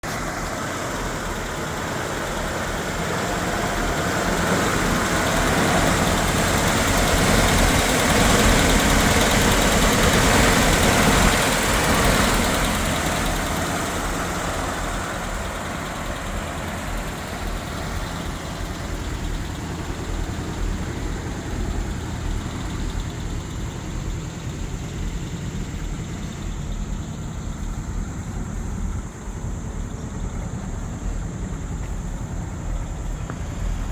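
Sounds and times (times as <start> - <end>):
truck engine running: 0.0 - 33.9.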